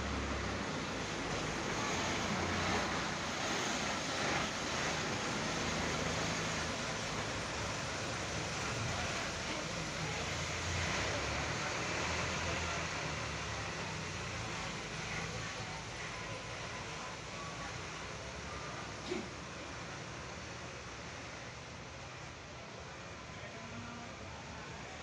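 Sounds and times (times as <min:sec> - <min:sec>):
diesel engine running: 0:00.0 - 0:22.3
bus driving past: 0:00.0 - 0:25.0.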